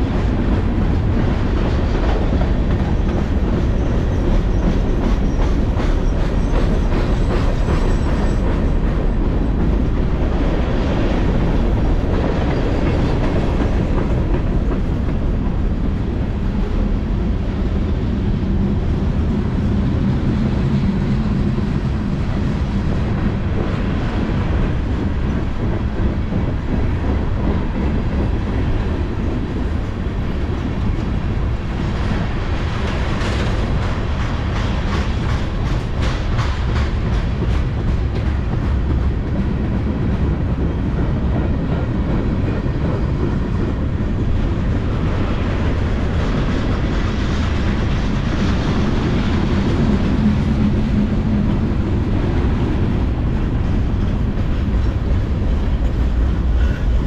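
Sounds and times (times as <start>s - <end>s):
wheels clacking over rail joints: 0.0s - 17.0s, 19.7s - 57.0s
freight train wheels rumbling: 0.0s - 57.0s.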